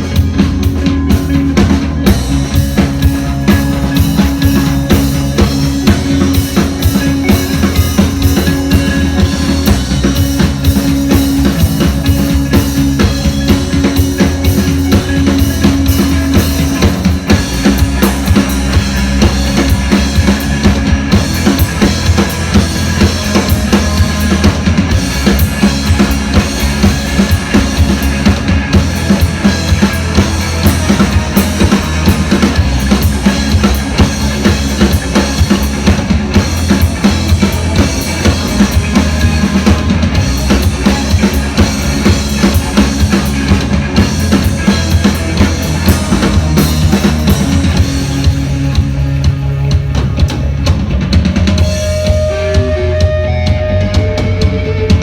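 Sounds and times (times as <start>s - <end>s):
drum kit beat: 0.0s - 55.0s
live band music: 0.0s - 55.0s
sustained bass notes: 0.0s - 55.0s.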